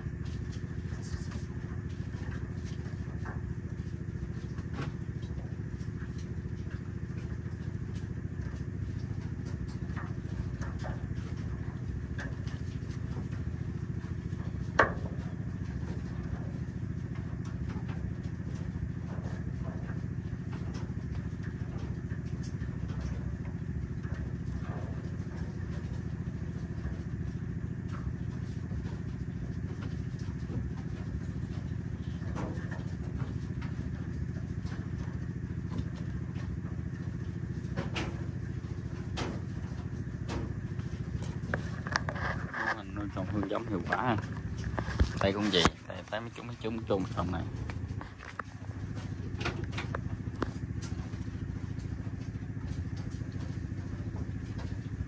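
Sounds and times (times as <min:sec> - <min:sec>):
motor humming: 0:00.0 - 0:55.0.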